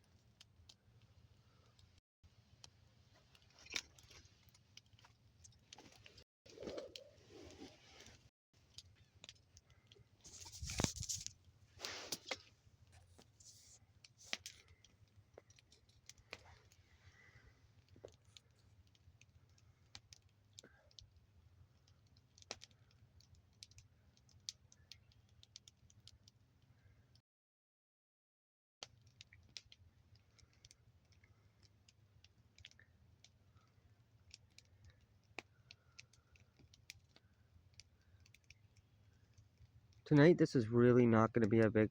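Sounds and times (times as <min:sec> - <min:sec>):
wood fire crackling: 0:00.1 - 0:27.2, 0:28.9 - 0:40.2.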